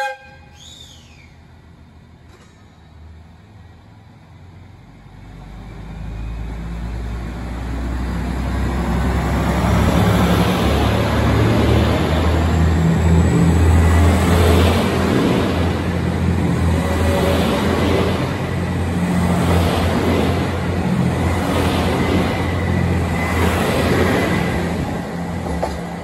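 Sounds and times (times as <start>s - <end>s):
diesel train engines rumbling: 0.0s - 26.0s
train cars running past: 0.0s - 26.0s.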